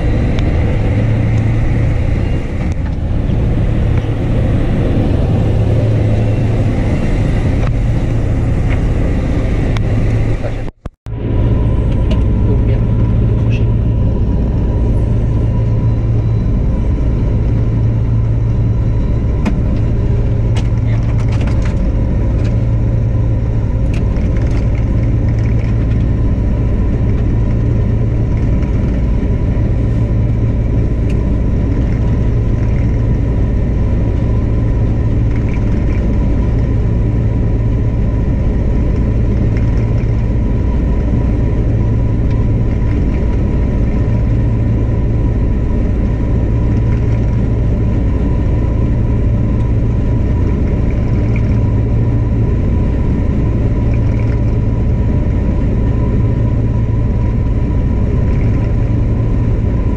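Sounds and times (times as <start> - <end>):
combine harvester droning: 0.0 - 59.9
high whine: 0.0 - 59.9.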